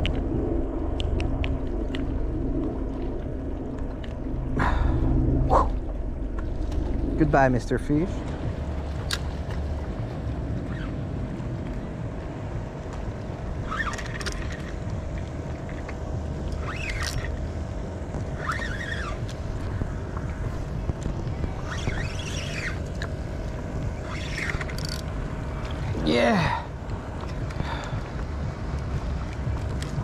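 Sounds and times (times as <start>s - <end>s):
faint constant hum: 0.0s - 30.0s
wind and water rushing: 0.0s - 30.0s.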